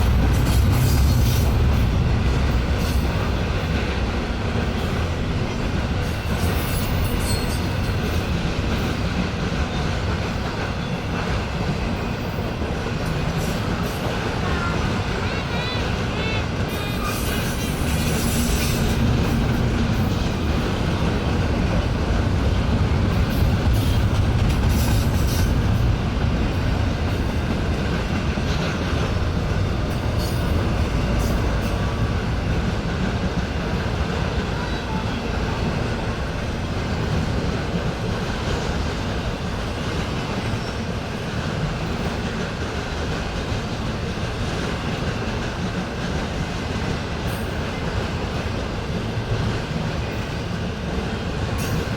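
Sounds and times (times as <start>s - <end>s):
freight train wheels rumbling: 0.0s - 51.9s
train cars clicking and clattering: 0.0s - 51.9s.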